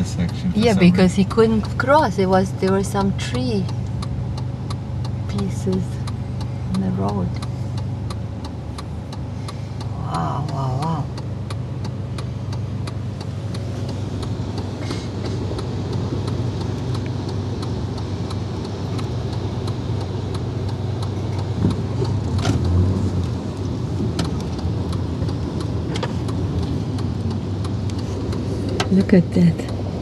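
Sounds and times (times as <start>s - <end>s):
engine and road hum: 0.0s - 30.0s
light ticks and taps: 0.2s - 29.8s.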